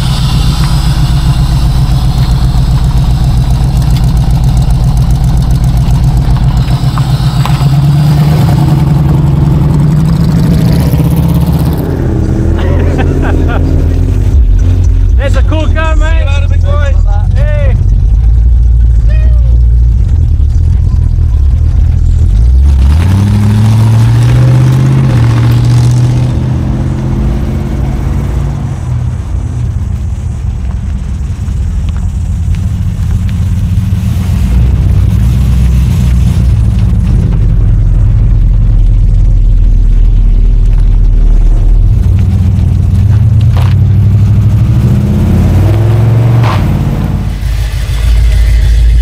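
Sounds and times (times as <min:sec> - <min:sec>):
car engine rumbling and revving: 0:00.0 - 0:49.0.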